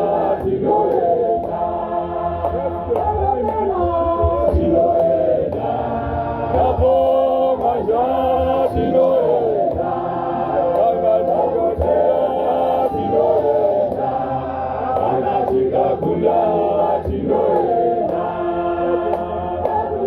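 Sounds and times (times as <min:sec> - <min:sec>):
men's choir singing in harmony: 0:00.0 - 0:20.0.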